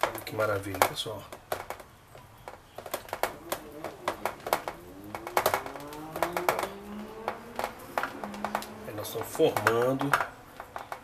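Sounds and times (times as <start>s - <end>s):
fingers dimpling wet dough: 0.0s - 11.0s.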